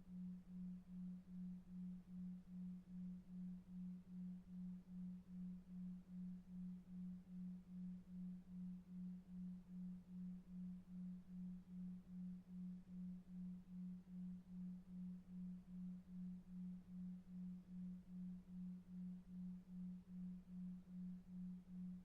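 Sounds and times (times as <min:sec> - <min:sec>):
low pulsing sine tone: 0:00.0 - 0:22.0.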